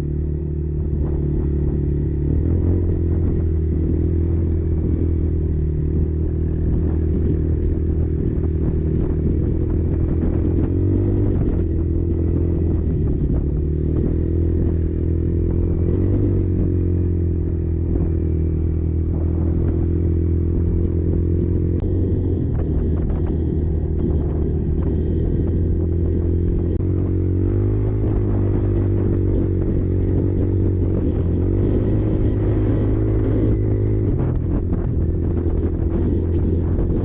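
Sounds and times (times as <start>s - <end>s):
quad engine running: 0.0s - 37.0s.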